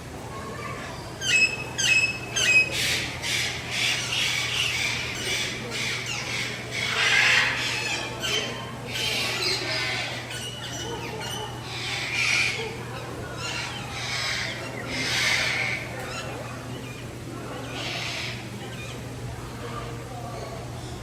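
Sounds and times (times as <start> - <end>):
birds squawking and chirping: 0.3 - 21.0.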